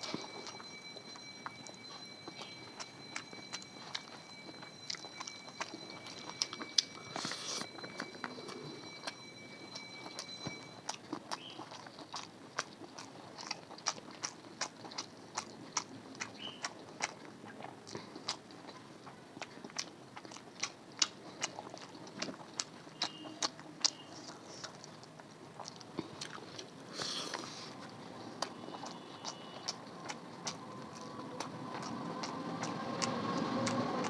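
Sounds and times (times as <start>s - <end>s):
chewing with mouth smacks: 0.0s - 34.0s.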